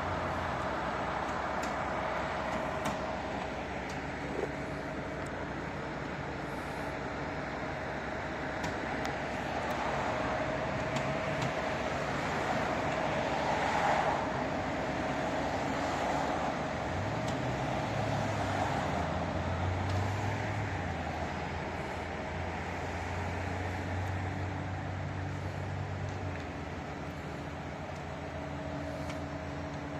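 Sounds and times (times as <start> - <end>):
low engine drone: 0.0 - 29.9
street traffic engines: 0.0 - 29.9.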